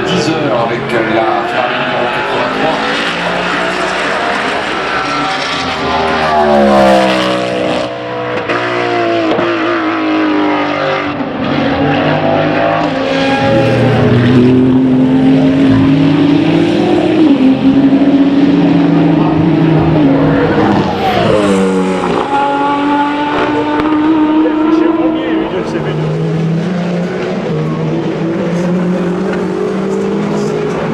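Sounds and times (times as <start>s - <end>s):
race car accelerating: 0.0s - 30.9s
race car passing: 0.0s - 30.9s.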